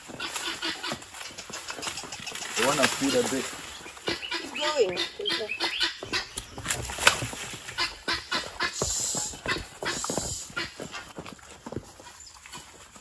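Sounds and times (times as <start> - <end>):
hooves clopping on stone: 0.0 - 13.0.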